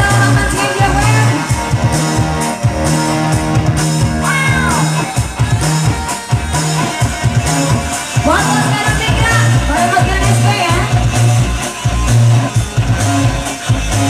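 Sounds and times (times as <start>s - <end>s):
band music: 0.0s - 14.0s
steady drum beat: 0.0s - 14.0s
sustained bass line: 0.0s - 14.0s.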